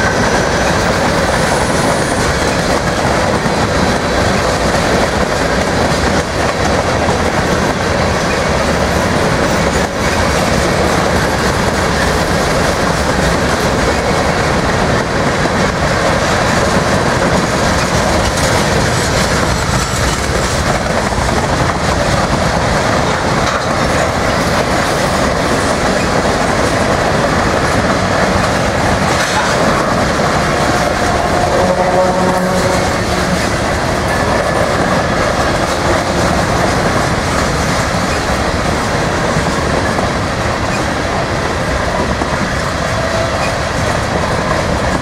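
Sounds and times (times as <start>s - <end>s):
train wheels rolling on rails: 0.0s - 45.0s.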